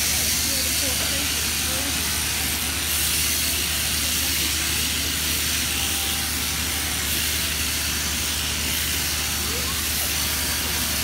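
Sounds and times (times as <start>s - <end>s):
sheep shears buzzing: 0.0s - 11.0s.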